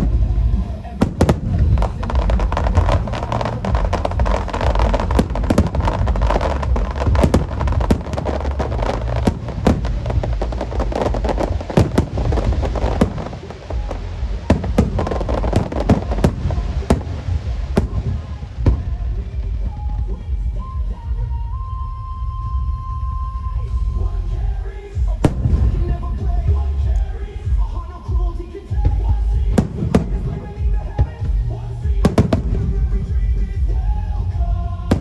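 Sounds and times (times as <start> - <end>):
fireworks banging and crackling: 0.0 - 21.4, 24.5 - 35.0
low rumble of explosions: 0.0 - 35.0.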